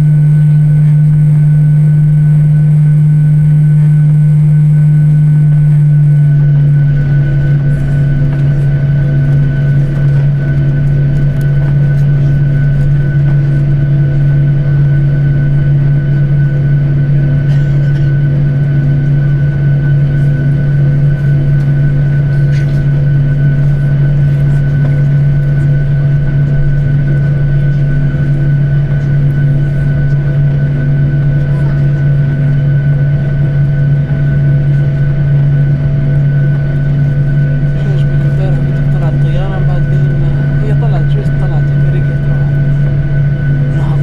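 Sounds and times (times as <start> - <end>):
jet engine drone in cabin: 0.0 - 44.0.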